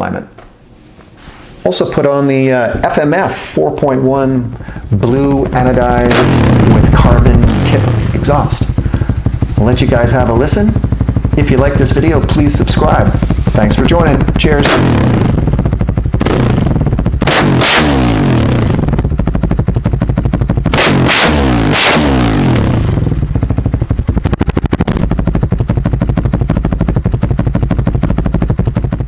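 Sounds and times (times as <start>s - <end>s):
motorcycle engine revving and idling: 3.4s - 29.0s.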